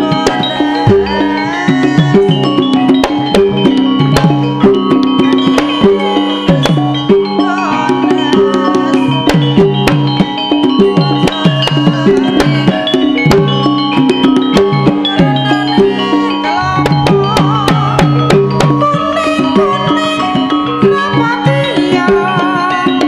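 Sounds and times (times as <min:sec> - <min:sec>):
busy drumming: 0:00.0 - 0:23.0
metal keyed instruments ringing: 0:00.0 - 0:23.0.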